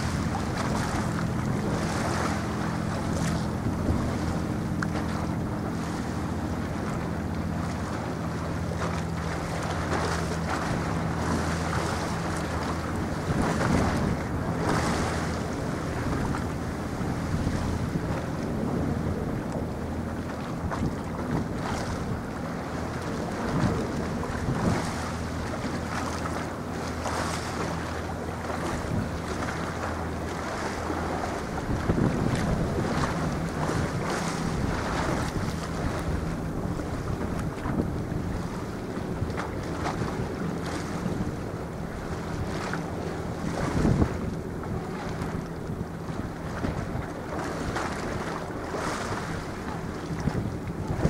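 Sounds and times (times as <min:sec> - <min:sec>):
low engine drone: 0:00.0 - 0:51.0
waves washing: 0:00.0 - 0:51.0
wind buffeting microphone: 0:00.0 - 0:51.0.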